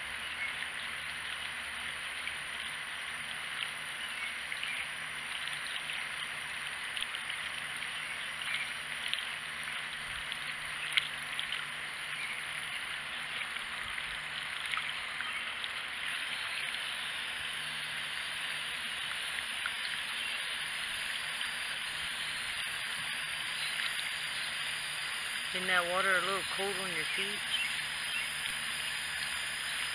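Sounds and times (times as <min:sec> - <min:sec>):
water running from a hose: 0:00.0 - 0:29.9.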